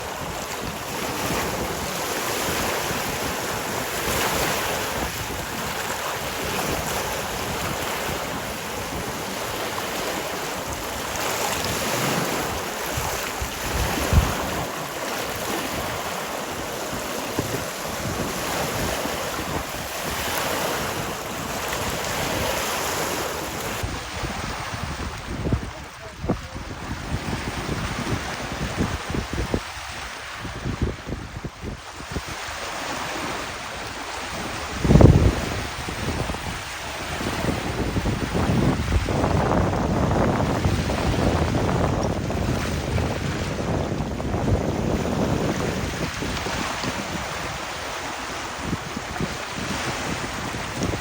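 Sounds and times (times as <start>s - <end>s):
waves washing onto beach: 0.0s - 51.0s
wind buffeting microphone: 0.0s - 51.0s.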